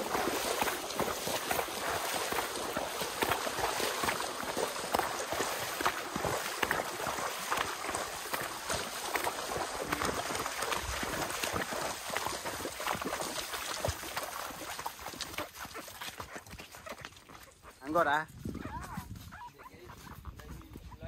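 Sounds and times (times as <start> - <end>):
hooves splashing in mud and water: 0.0 - 21.0.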